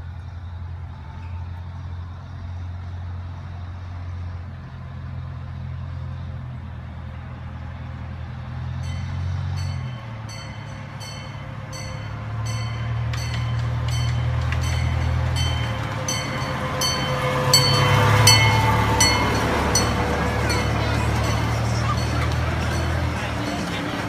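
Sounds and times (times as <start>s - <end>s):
miniature train locomotive drone: 0.0s - 24.0s.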